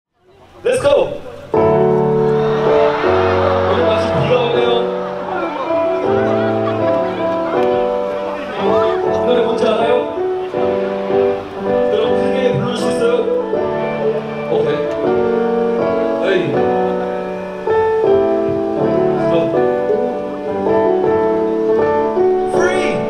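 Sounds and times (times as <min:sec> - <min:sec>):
piano chords over loudspeakers: 0:00.2 - 0:23.0.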